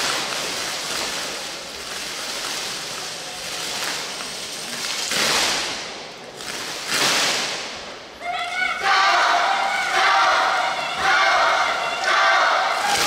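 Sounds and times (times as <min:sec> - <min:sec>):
sports hall audience noise: 0:00.0 - 0:13.0.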